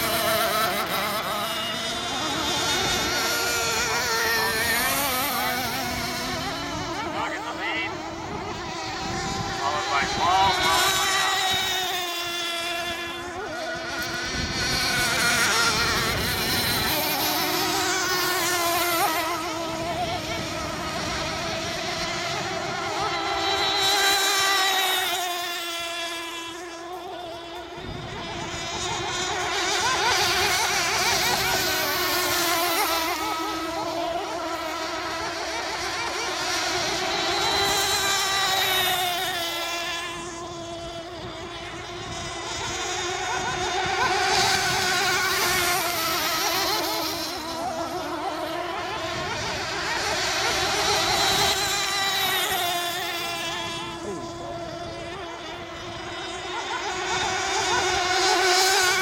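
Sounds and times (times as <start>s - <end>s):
model boat engines whining: 0.0s - 59.0s.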